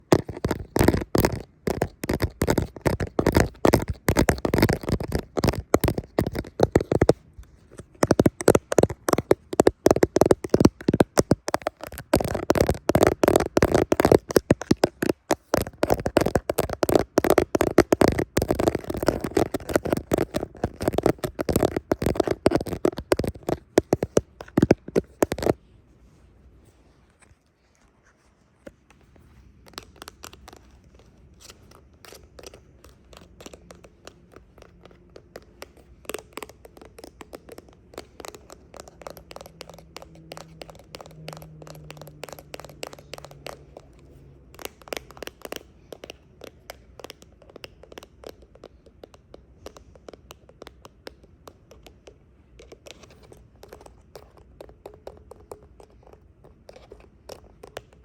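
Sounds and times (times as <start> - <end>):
fingernails scratching and tapping plastic: 0.0 - 25.6, 28.6 - 58.0.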